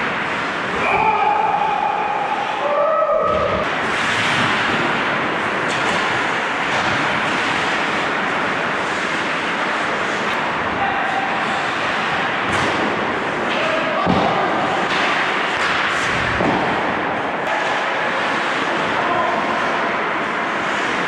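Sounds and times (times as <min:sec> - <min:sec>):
hockey sticks clattering: 0:03.5 - 0:21.0
skates scraping ice: 0:03.6 - 0:21.0.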